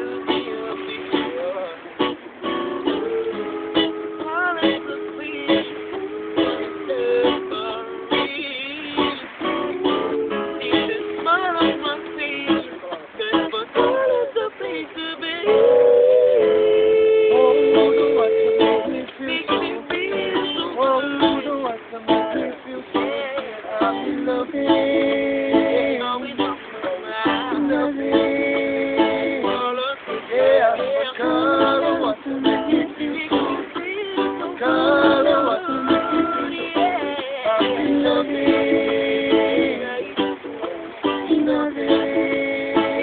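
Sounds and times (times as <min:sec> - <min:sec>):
ukulele playing: 0:00.0 - 0:43.0.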